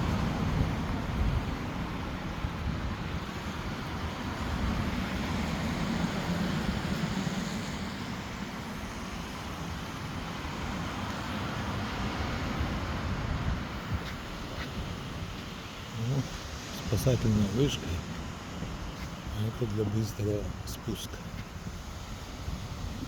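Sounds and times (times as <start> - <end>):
rough surf: 0.0 - 23.0
wind: 0.0 - 23.0
wind buffeting microphone: 0.0 - 23.0.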